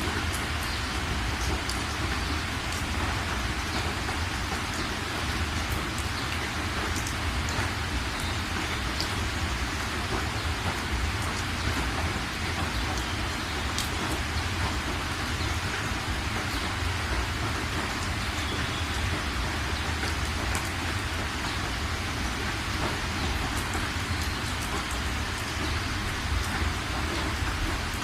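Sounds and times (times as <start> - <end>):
rain falling: 0.0 - 28.0
raindrop ticks: 0.0 - 28.0.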